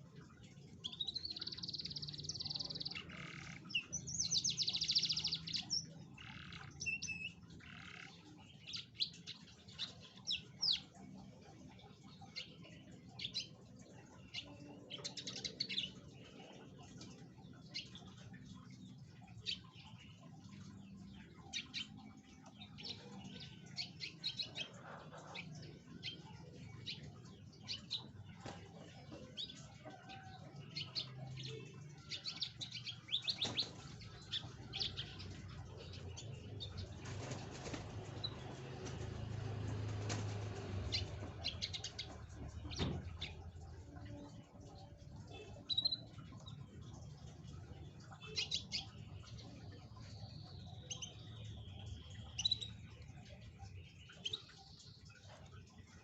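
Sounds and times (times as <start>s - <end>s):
canaries chirping: 0.1s - 56.0s.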